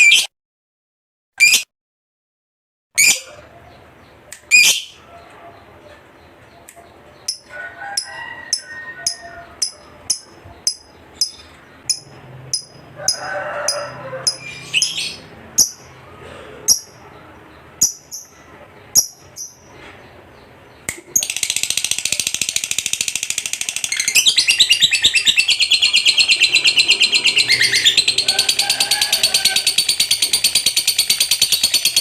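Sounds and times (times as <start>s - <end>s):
lovebird chirping: 3.0s - 13.2s, 14.2s - 16.0s, 16.7s - 32.0s
lower bird chatter: 3.0s - 32.0s.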